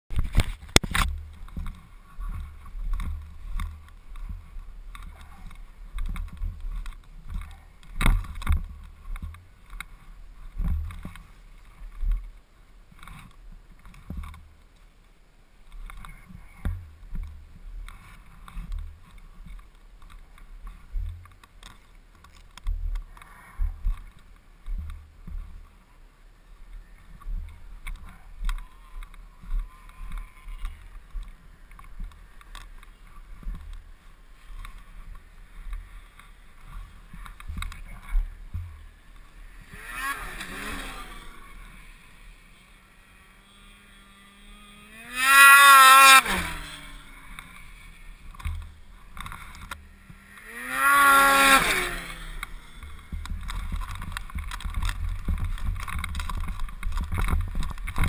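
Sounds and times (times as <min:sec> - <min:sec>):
snowmobile engine rumble: 0:00.1 - 0:58.0.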